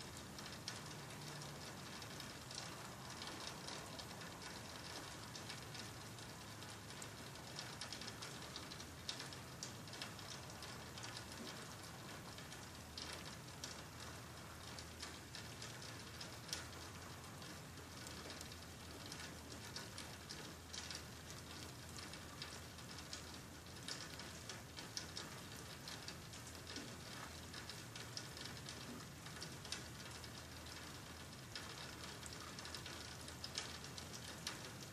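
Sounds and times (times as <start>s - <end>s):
faint steady rain: 0.0s - 34.9s
raindrops ticking: 0.0s - 34.9s.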